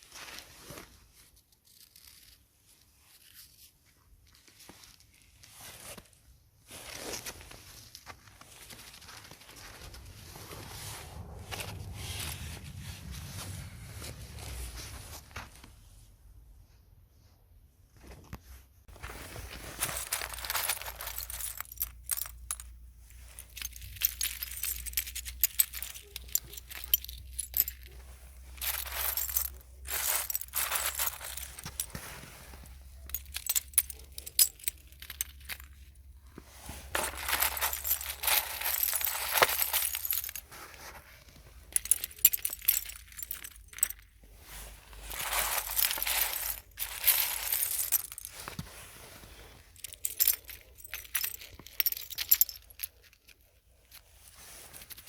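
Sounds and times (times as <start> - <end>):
small objects handled close to microphone: 0.0 - 15.9, 17.9 - 55.0.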